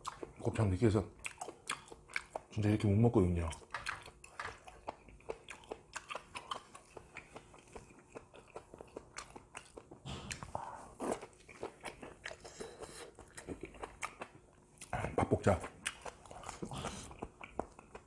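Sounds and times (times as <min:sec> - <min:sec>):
wet chewing and smacking: 0:00.0 - 0:18.0.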